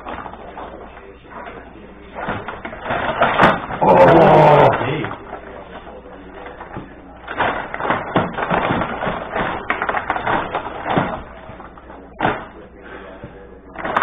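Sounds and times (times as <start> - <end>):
table hockey clicks and knocks: 2.2 - 12.6, 13.2 - 14.0.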